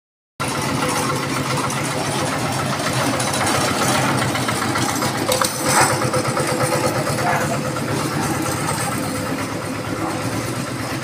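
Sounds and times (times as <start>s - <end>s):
concrete mixer running: 0.4s - 11.0s.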